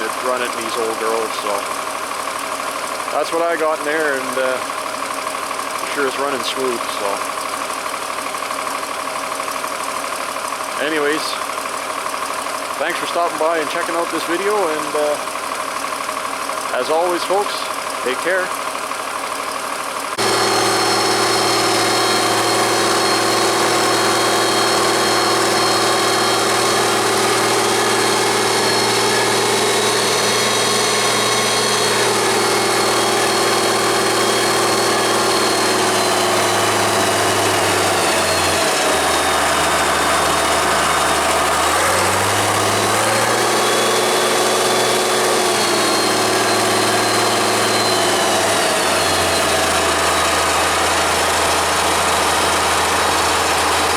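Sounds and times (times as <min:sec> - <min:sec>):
tractor engine idling: 0:00.0 - 0:53.9.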